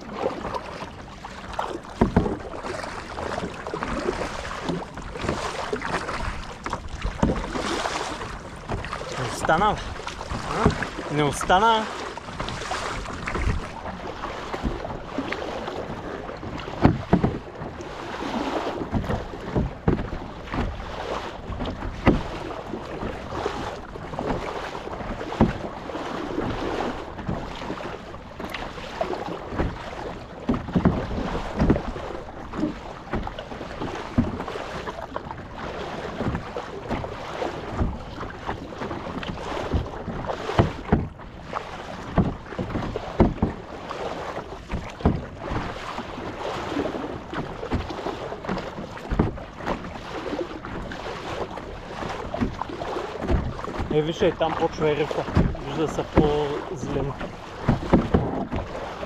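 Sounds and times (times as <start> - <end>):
paddle splashing in water: 0.0 - 59.0
water sloshing against hull: 0.0 - 59.0.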